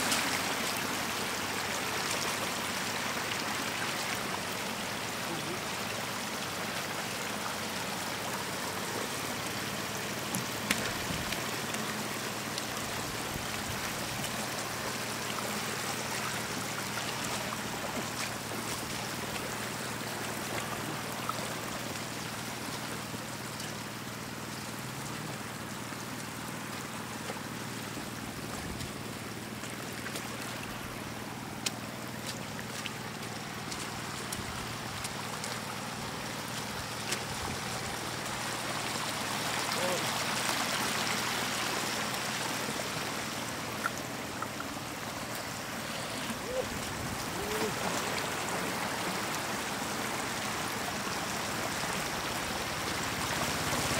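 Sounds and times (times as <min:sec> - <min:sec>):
floodwater running over ground: 0:00.0 - 0:53.9.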